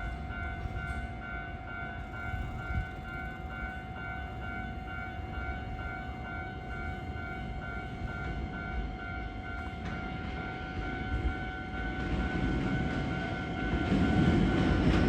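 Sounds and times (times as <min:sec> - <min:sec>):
steady warning tone: 0:00.0 - 0:15.0.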